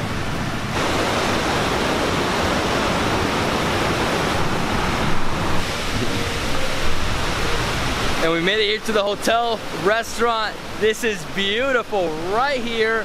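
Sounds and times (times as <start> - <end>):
fast river water rushing: 0.0 - 13.0.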